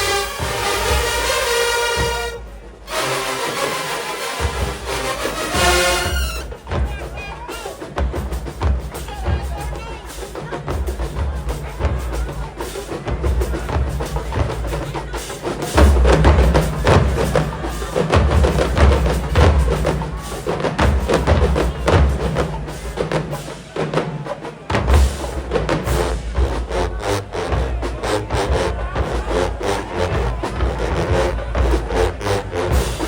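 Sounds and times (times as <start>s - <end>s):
bass drums: 4.4s - 23.4s, 24.7s - 33.0s.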